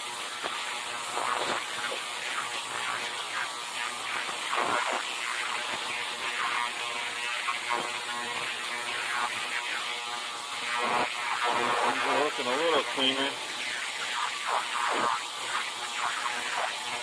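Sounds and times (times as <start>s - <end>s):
ultrasonic cleaner buzzing hiss: 0.0s - 17.0s.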